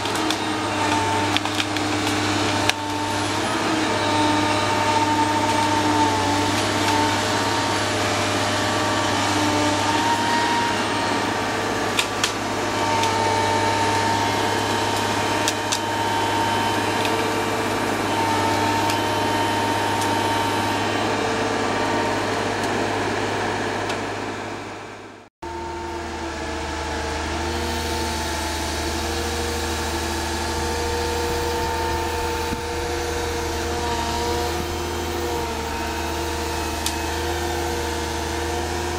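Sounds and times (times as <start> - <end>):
heavy machine engine and hydraulics: 0.0 - 38.9.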